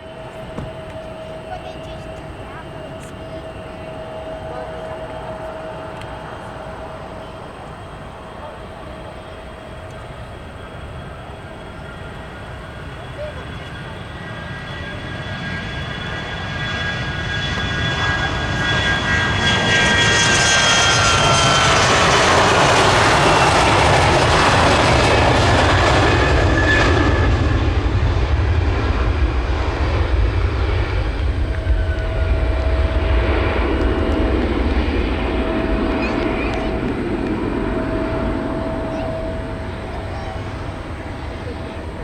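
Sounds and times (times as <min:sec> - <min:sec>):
jet engine whine: 0:00.0 - 0:42.0
low jet rumble: 0:00.0 - 0:42.0.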